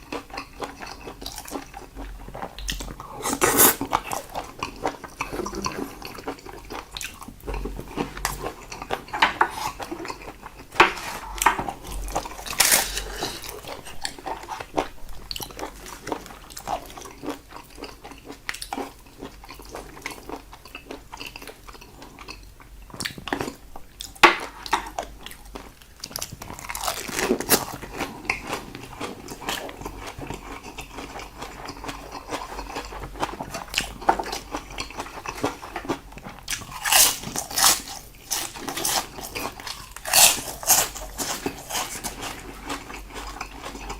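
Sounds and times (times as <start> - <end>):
food crunching: 0.0 - 43.9
wet chewing and mouth smacks: 0.0 - 43.9.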